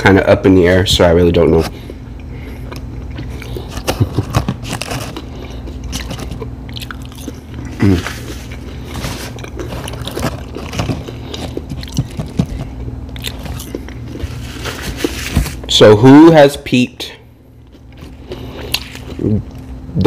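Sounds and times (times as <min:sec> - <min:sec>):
steady low hum: 0:00.0 - 0:20.0
chewing and crunching food: 0:01.6 - 0:15.7, 0:17.3 - 0:20.0.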